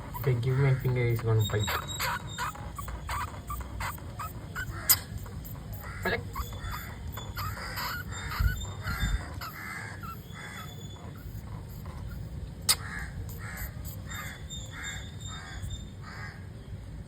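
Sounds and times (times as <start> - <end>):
crow cawing: 0.0 - 12.1, 12.7 - 16.4.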